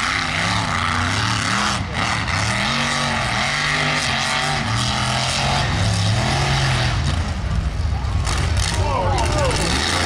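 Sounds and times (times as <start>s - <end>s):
truck engines revving: 0.0s - 10.0s.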